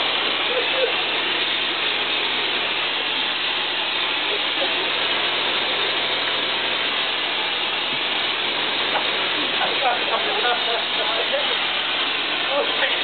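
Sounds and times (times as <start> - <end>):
pressure washer water jet hissing: 0.0 - 13.0.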